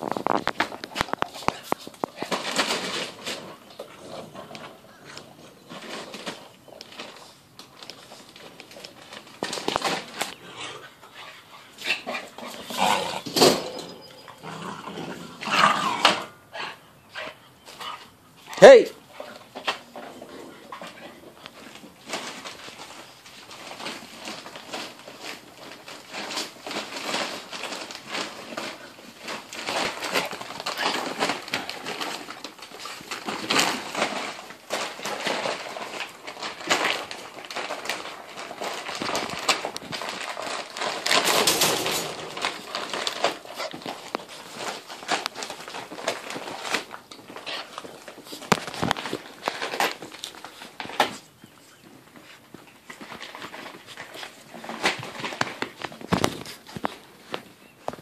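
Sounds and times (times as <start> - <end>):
puppies play-fighting rustling: 0.0 - 16.0, 16.6 - 58.0.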